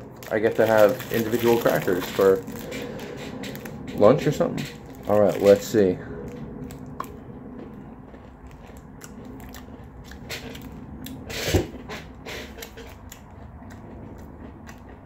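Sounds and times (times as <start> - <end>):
person chewing crunchy food: 0.0 - 15.0.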